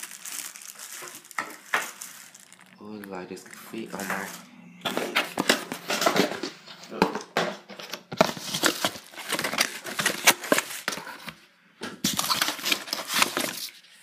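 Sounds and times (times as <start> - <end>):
packaging crinkling and rustling: 0.0 - 11.4, 12.0 - 14.0.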